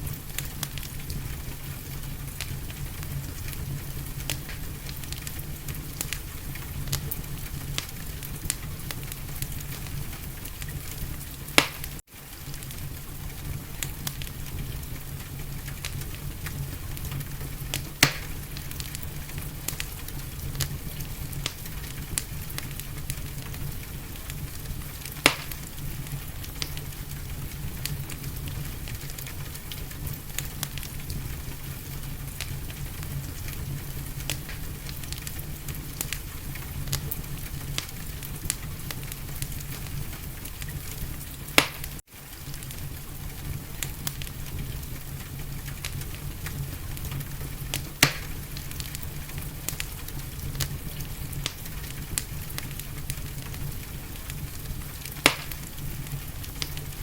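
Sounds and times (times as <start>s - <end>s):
fire popping sharply: 0.0s - 57.0s
gentle rain hiss: 0.0s - 57.0s
wood fire crackling: 0.0s - 57.0s.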